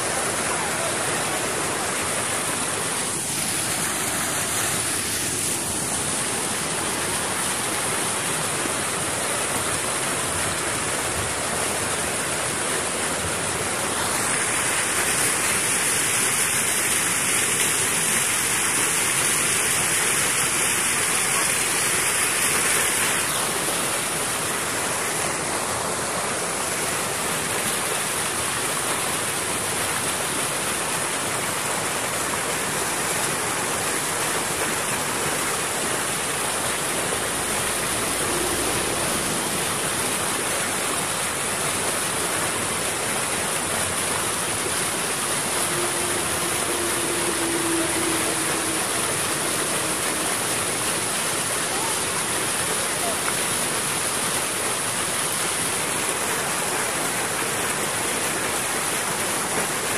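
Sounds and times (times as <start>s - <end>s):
water rushing through rapids: 0.0s - 59.9s.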